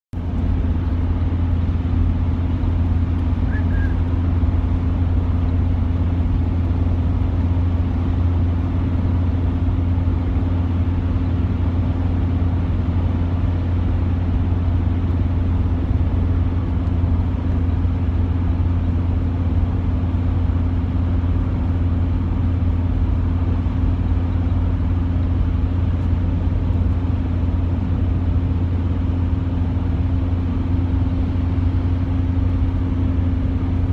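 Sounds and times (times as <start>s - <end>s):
car engine hum: 0.2s - 33.9s.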